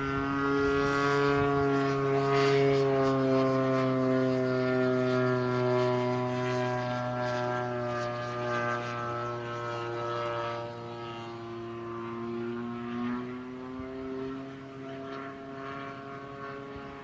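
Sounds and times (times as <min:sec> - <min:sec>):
model plane engine droning: 0:00.0 - 0:17.0.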